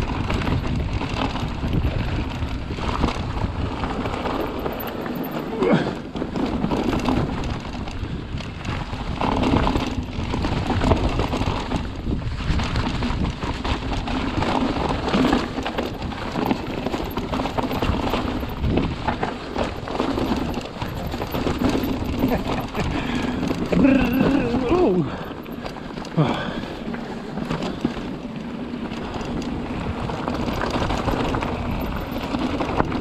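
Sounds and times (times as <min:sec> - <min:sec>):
bike rattling over rocks: 0:00.0 - 0:33.0.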